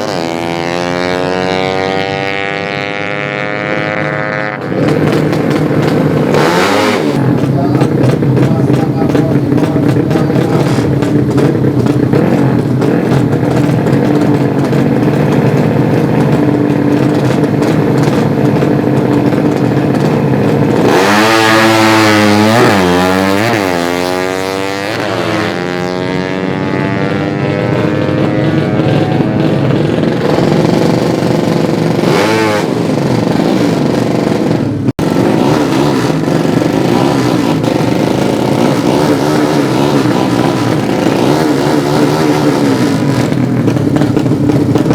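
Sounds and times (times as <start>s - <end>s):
motorcycle engine revving hard: 0.0s - 44.9s
motorcycle engines running: 0.0s - 44.9s.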